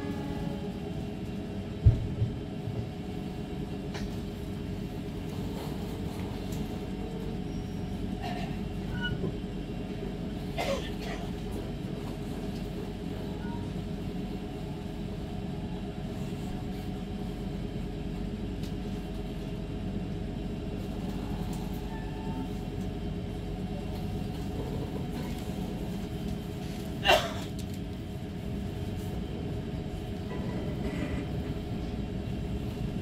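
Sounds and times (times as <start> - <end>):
train rumbling inside carriage: 0.0 - 33.0.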